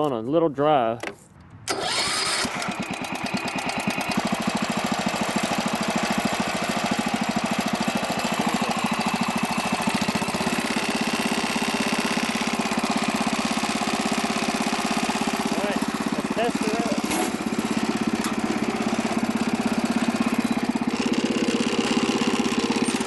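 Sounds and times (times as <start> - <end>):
lawn tractor engine running: 1.0 - 23.0.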